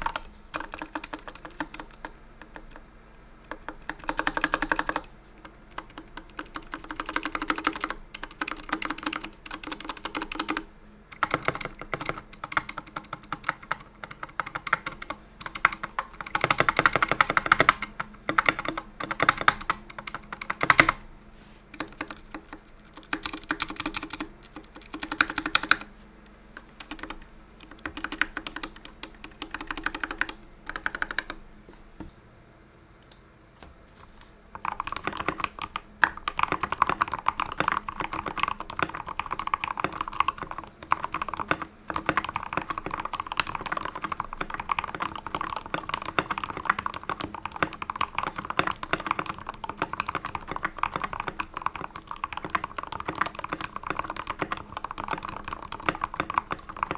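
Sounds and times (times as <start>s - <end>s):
mechanical keyboard typing: 0.0s - 21.0s, 21.7s - 25.9s, 26.6s - 31.4s, 34.6s - 56.9s.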